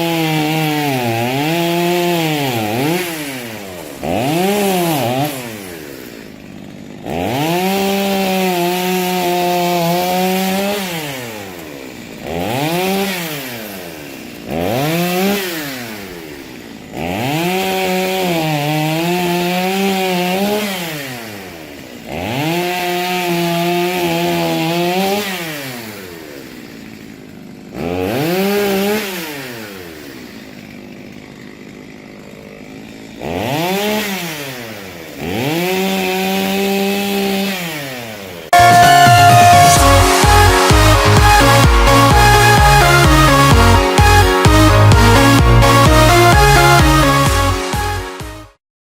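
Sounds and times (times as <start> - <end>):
chainsaw revving and cutting wood: 0.0 - 48.6.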